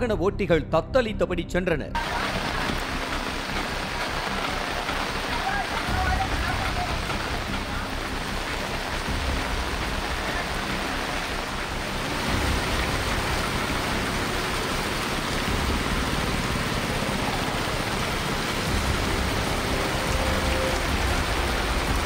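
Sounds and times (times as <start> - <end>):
heavy rain pouring: 2.0 - 22.0.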